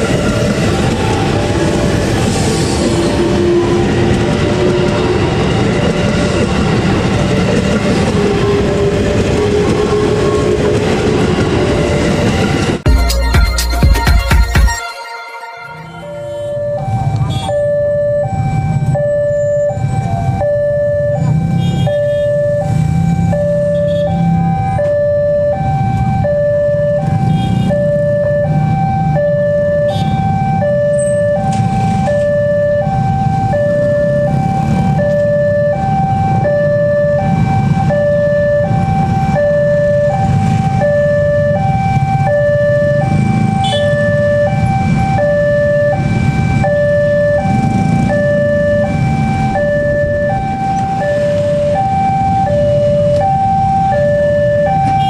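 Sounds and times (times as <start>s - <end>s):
two-tone crossing warning alarm: 0.0s - 55.0s.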